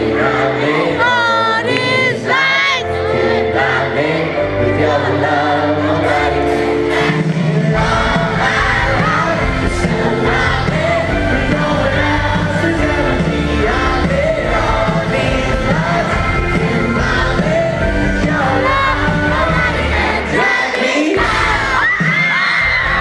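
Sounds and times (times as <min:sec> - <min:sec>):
crowd: 0:00.0 - 0:23.0
live pop band with singer: 0:00.0 - 0:23.0.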